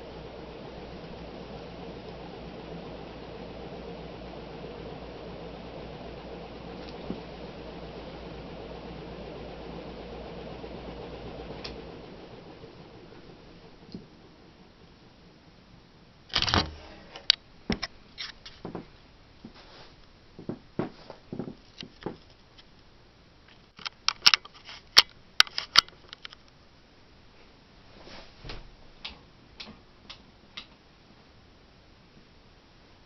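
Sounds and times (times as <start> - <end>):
ceiling fan whirring: 0.0 - 33.0.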